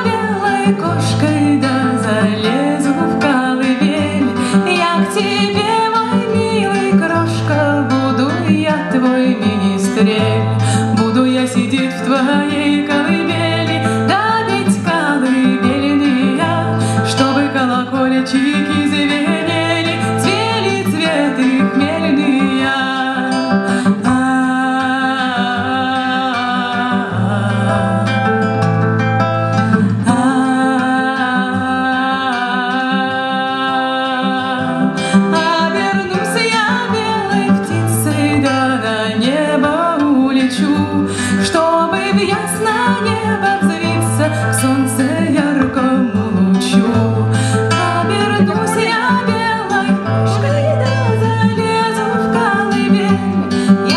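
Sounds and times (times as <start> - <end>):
woman singing a lullaby: 0.0 - 28.2, 29.8 - 53.9
acoustic guitar: 0.0 - 53.9.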